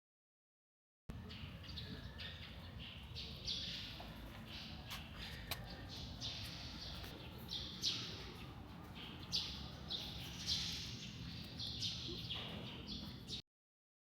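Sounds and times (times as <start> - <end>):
bird chirping: 1.1 - 13.4
low background noise: 1.1 - 13.4.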